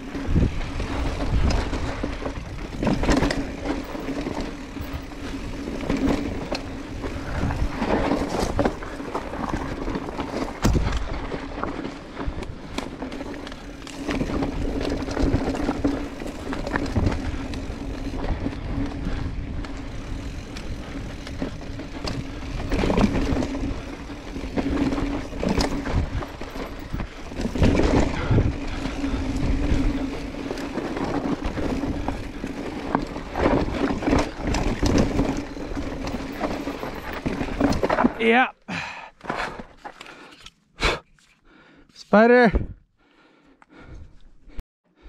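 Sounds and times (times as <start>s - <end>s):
bike knocking and rattling: 0.0s - 40.6s
bike tyres rolling over dirt and rock: 0.0s - 40.6s.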